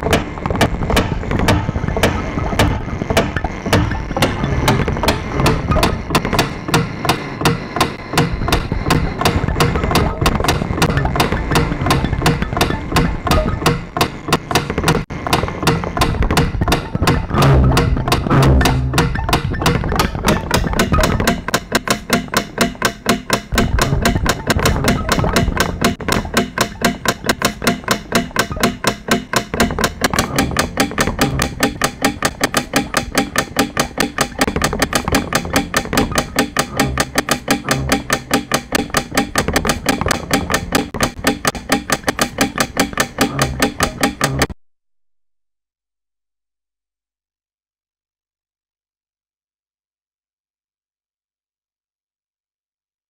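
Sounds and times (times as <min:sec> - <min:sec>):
rapid percussive knocks: 0:00.0 - 0:44.6.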